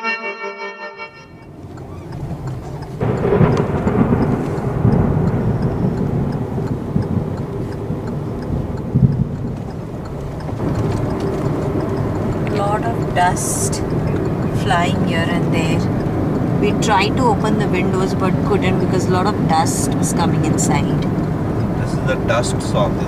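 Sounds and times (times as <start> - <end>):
road noise inside car: 1.1 - 23.0
wind buffeting a car: 1.5 - 23.0.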